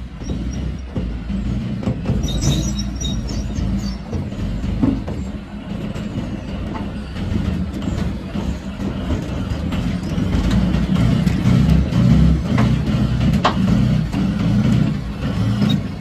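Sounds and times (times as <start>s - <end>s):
heavy vehicle engine rumbling: 0.0s - 16.0s
metallic knocks and clatter: 0.0s - 16.0s.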